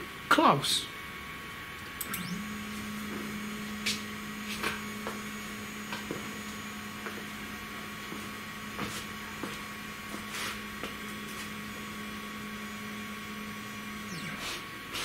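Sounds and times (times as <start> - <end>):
stepper motor humming: 1.2 - 15.0.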